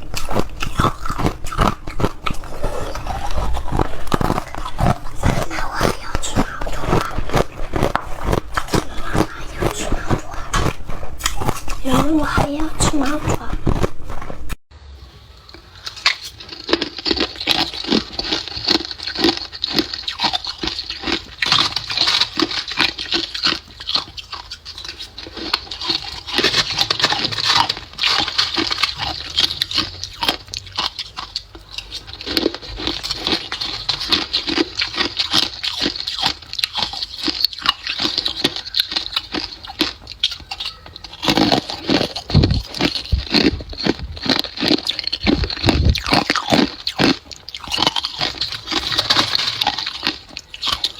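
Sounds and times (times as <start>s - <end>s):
ice crunching between teeth: 0.0s - 14.6s, 15.5s - 50.9s.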